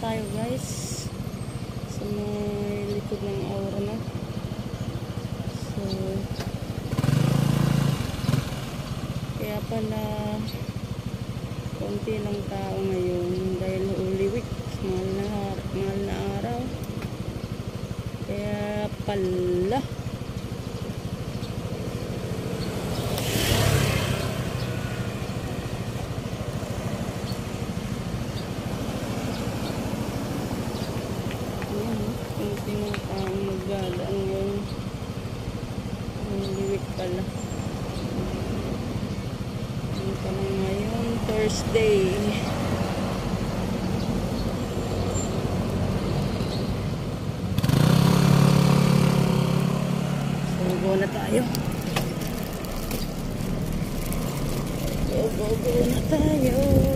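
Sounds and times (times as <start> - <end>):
low hum of engines: 0.0 - 56.9
scooter engine passing by: 0.0 - 56.9
street traffic: 0.0 - 56.9.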